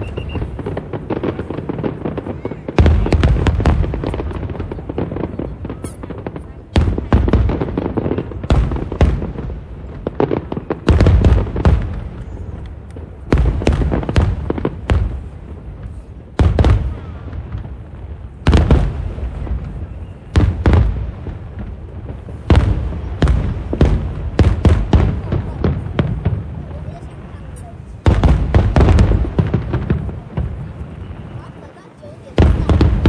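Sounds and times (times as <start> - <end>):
fireworks booming: 0.0 - 33.0
fireworks crackling: 0.0 - 33.0.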